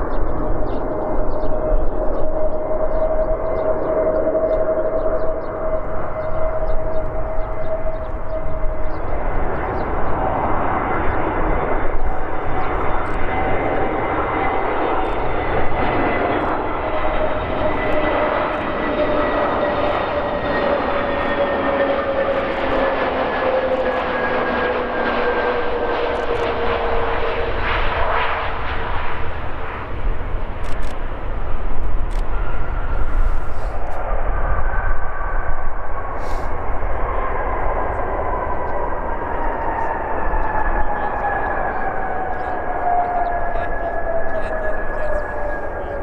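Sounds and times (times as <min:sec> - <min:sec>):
jet airliner rumble and whine: 0:00.0 - 0:46.0.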